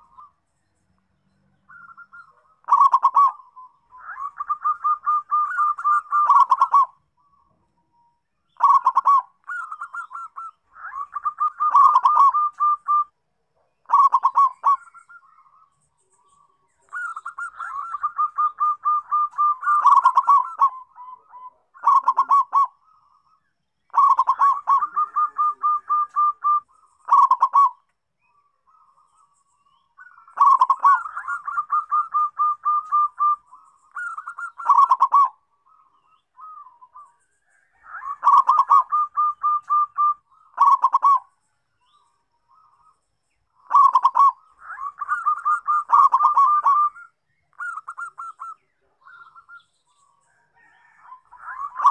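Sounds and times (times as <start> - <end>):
dove cooing song: 0.0 - 0.5, 1.2 - 51.9.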